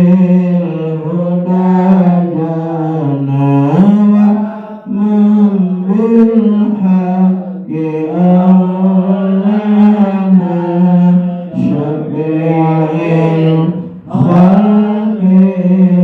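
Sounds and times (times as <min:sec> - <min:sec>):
person chanting a prayer: 0:00.0 - 0:16.0.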